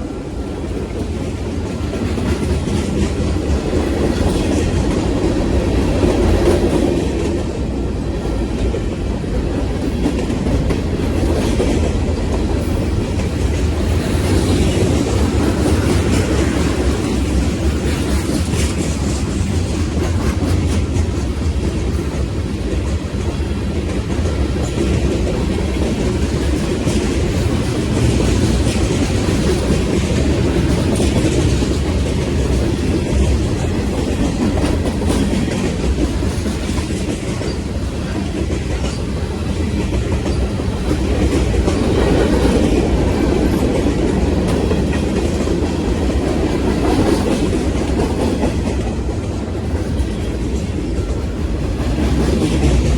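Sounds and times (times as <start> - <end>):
clickety-clack over rail joints: 0.0 - 52.9
train rumbling on rails: 0.0 - 52.9.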